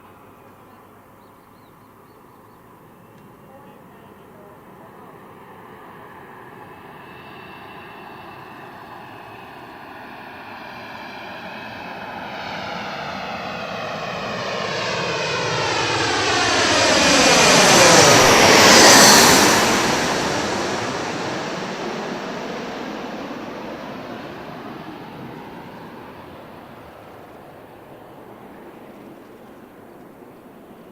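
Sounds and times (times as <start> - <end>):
jet engines passing close by: 1.9 - 30.9.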